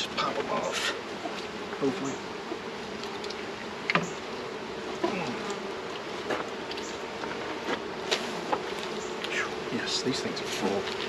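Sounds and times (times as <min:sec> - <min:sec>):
bee passing with falling whine: 0:00.0 - 0:11.0
bees buzzing: 0:00.0 - 0:11.0.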